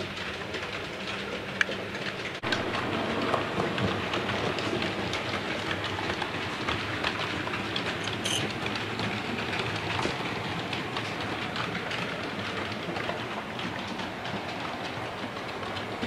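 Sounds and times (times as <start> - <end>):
model train wheels rattling: 0.0 - 16.0.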